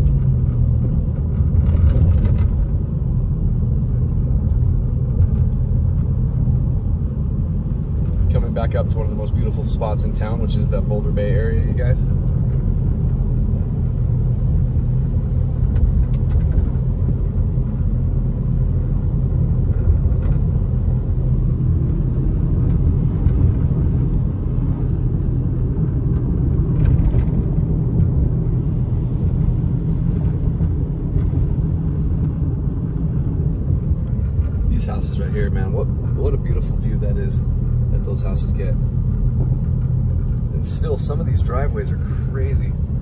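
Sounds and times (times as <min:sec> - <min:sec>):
car driving on wet road: 0:00.0 - 0:43.0.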